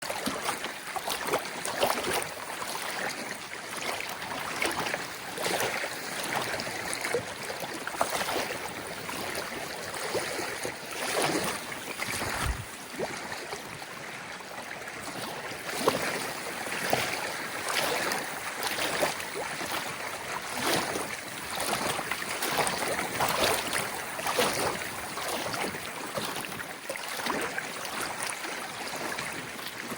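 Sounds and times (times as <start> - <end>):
small waves lapping on shore: 0.0 - 29.9.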